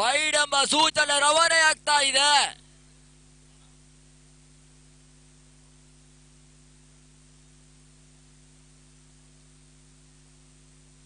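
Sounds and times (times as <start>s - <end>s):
faint steady hiss: 0.0s - 11.0s
low electrical hum: 0.0s - 11.0s.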